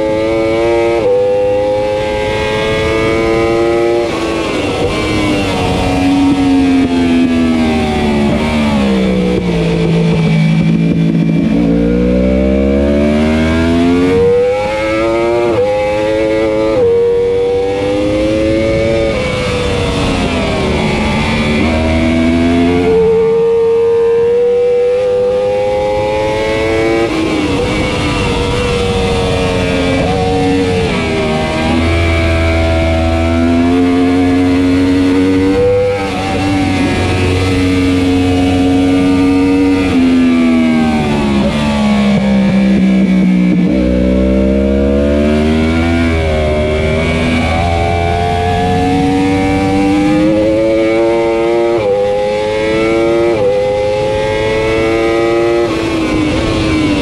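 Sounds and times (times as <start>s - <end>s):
motorcycle engine racing: 0.0s - 57.0s.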